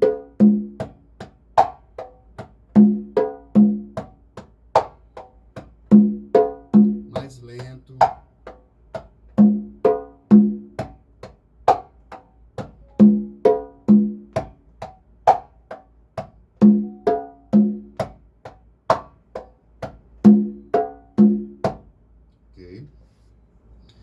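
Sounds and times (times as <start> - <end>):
congas played by hand: 0.0 - 22.0.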